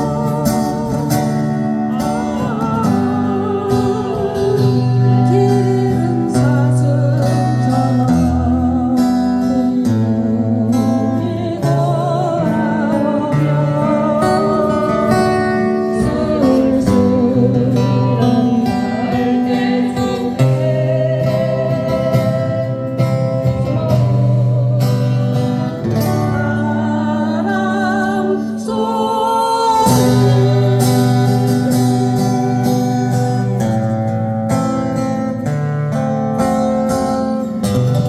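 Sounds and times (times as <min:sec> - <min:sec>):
person singing: 0:00.0 - 0:33.9
acoustic guitar strumming: 0:00.0 - 0:38.0.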